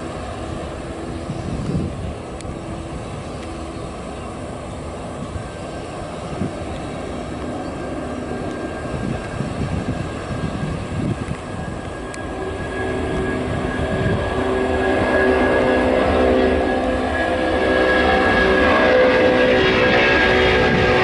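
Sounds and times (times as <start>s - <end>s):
humming tone: 0.0s - 21.0s
jet engines rushing: 0.0s - 21.0s.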